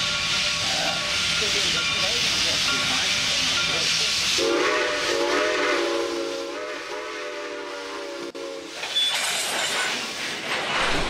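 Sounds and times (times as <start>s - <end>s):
steam locomotive chime whistle: 0.0s - 9.3s
rumbling train with hiss: 0.0s - 11.0s.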